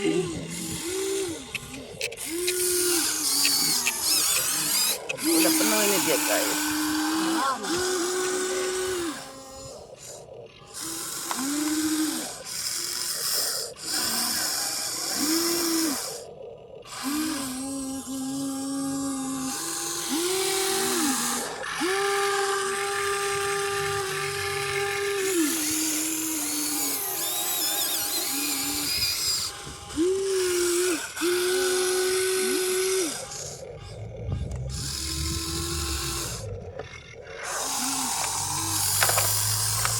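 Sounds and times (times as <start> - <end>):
electric motors whining: 0.0 - 39.9.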